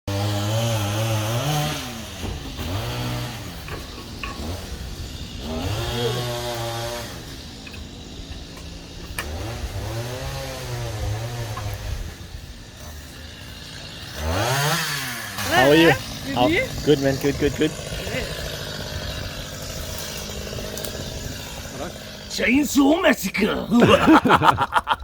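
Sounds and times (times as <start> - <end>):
chainsaw engine revving: 0.1 - 22.6.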